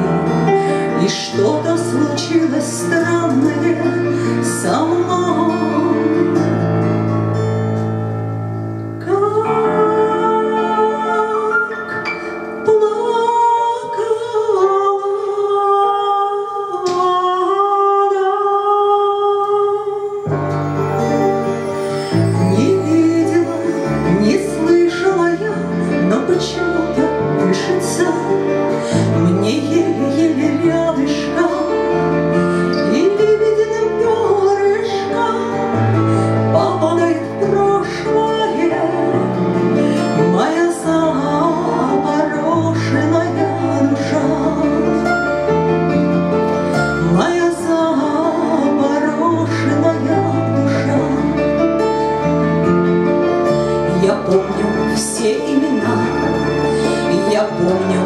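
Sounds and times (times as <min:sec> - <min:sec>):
woman singing into microphone: 0:00.0 - 0:06.9, 0:09.0 - 0:20.4, 0:22.2 - 0:51.8, 0:53.7 - 0:58.0.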